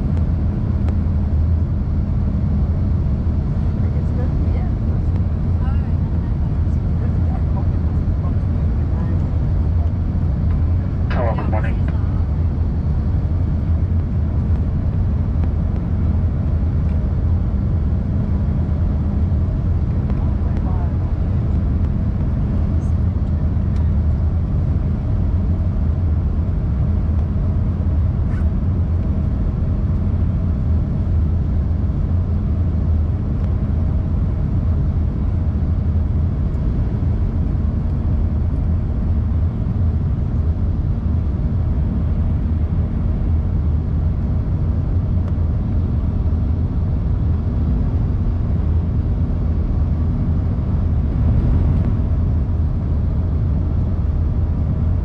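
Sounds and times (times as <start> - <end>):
jet engines and airflow rumble: 0.0 - 55.0.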